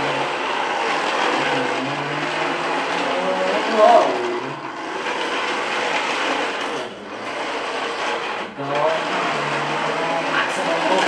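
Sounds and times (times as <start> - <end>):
toy truck motor whirring: 0.0 - 11.0.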